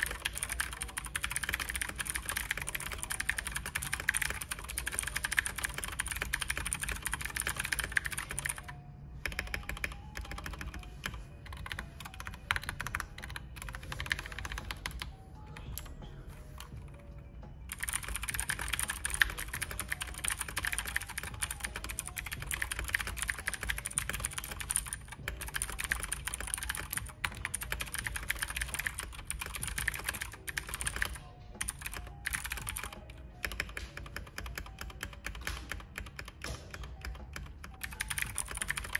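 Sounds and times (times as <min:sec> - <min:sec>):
mechanical keyboard typing: 0:00.0 - 0:15.9, 0:17.7 - 0:38.9
quiet background music: 0:00.0 - 0:38.9.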